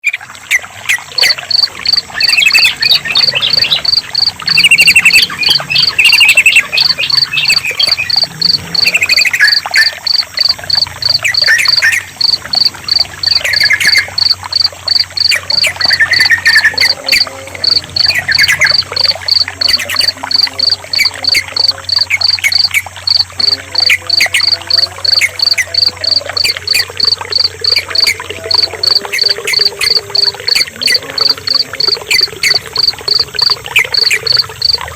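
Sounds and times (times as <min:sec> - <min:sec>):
bulbul calls and song: 0:00.0 - 0:34.8
cricket chirping: 0:00.0 - 0:34.9
trickling water: 0:00.0 - 0:34.9.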